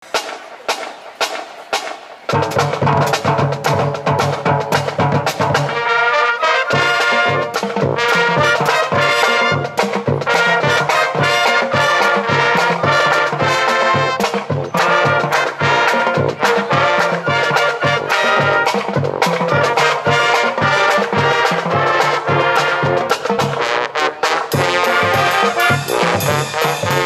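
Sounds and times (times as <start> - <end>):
steady drum beat: 0.0 - 27.0
trumpets and trombones: 0.0 - 27.0.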